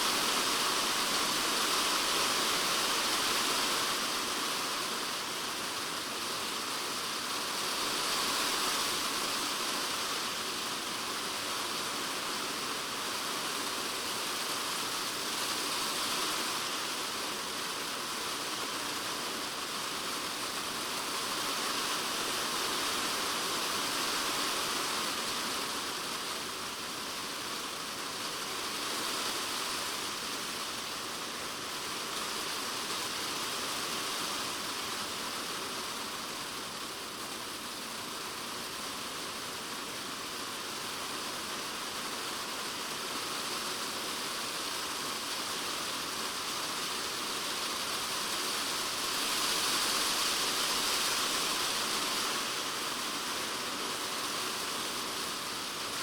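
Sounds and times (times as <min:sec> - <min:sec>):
rain drumming on a plastic roof: 0:00.0 - 0:56.0.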